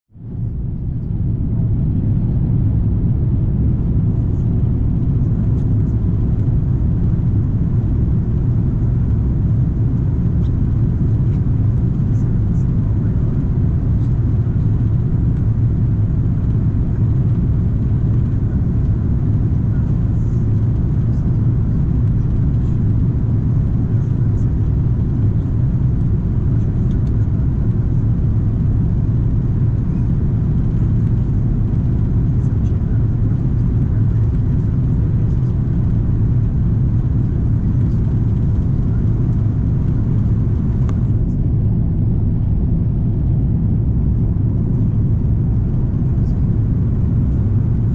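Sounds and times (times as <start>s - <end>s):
aircraft cabin engine rumble: 0.1s - 47.9s.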